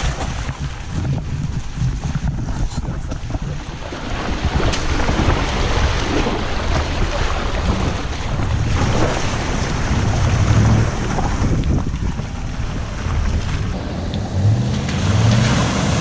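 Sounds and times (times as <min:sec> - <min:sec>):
wind buffeting microphone: 0:00.0 - 0:14.7
low engine rumble: 0:00.0 - 0:16.0
tyres splashing through mud: 0:00.0 - 0:16.0.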